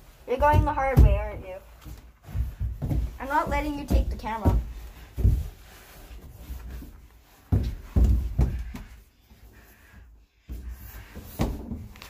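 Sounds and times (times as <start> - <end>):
child climbing plastic slide: 0.0 - 12.0.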